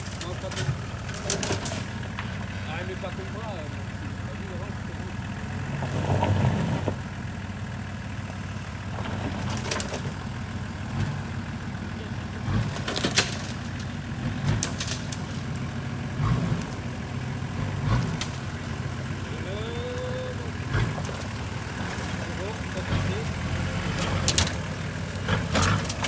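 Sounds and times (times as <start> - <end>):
knocks and clunks of tyres and body: 0.0 - 19.3, 20.5 - 26.0
off-road vehicle engine at low revs: 0.0 - 26.0.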